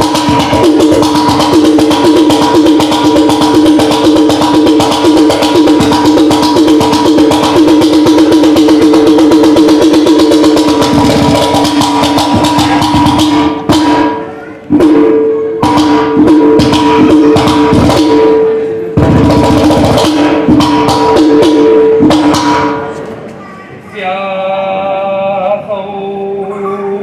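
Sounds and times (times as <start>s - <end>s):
copper pot drum played by hand: 0.0s - 23.1s.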